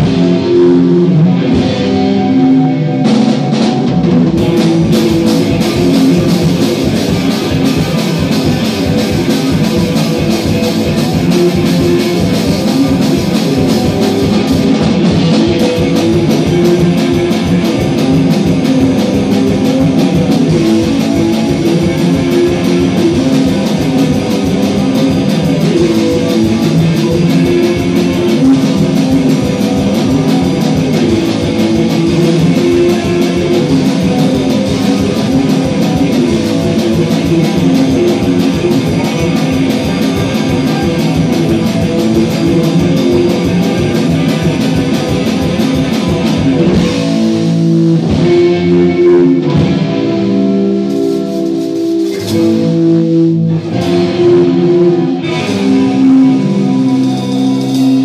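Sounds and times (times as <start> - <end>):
electric guitar playing rock: 0.0 - 58.0
rock drum kit beat: 0.0 - 58.0.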